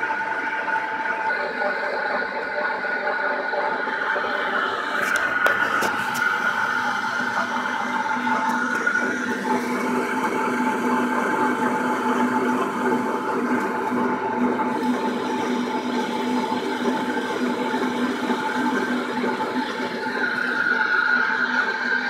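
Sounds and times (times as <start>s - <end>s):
slurry mixer humming: 0.0s - 22.0s.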